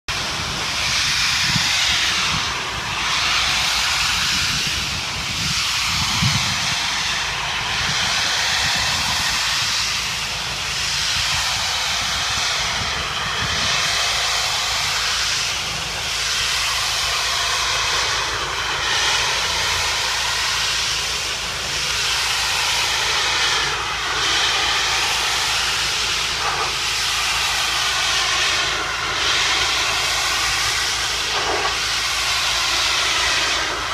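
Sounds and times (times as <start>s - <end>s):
pressure washer spraying water: 0.1s - 33.9s.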